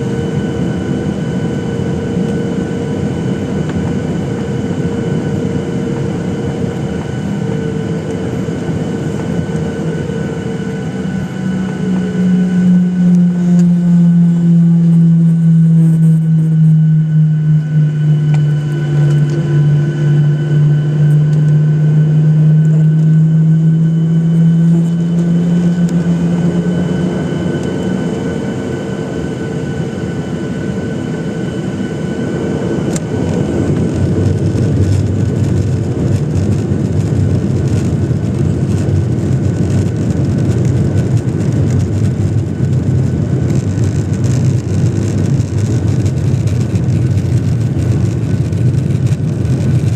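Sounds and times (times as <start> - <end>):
jet engine low hum: 0.0 - 49.9.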